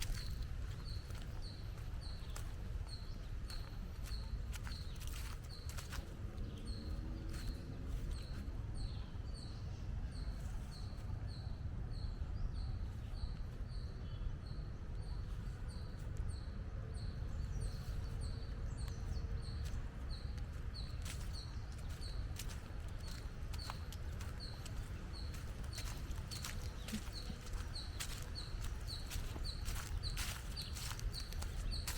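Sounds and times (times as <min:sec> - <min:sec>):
low outdoor rumble: 0:00.0 - 0:31.9.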